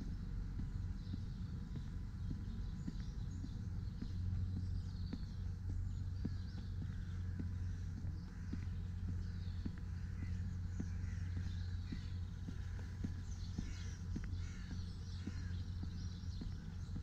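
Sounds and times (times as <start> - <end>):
birds calling: 0.0 - 17.0
soft regular ticks: 0.0 - 17.0
steady low hum: 0.0 - 17.0.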